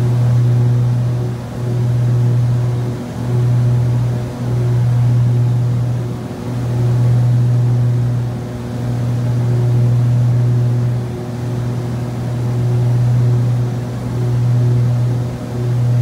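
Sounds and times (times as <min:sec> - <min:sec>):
propeller engines droning in cabin: 0:00.0 - 0:16.0.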